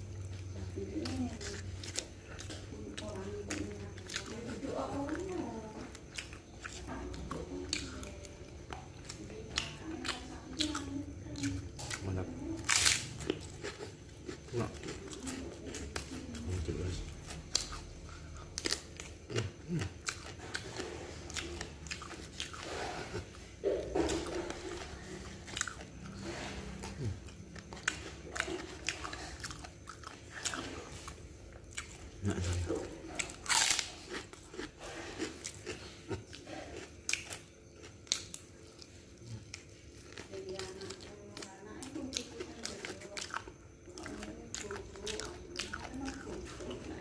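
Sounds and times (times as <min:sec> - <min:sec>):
chewing sounds: 0:00.0 - 0:47.0.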